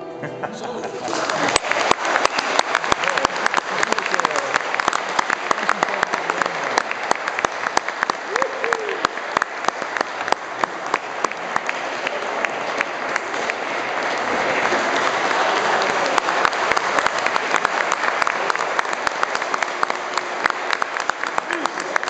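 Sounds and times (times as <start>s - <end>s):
audience applauding: 0.6s - 22.0s.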